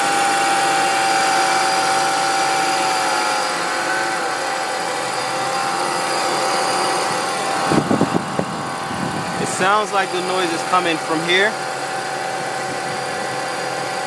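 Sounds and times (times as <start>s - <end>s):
steady whine: 0.0s - 14.0s.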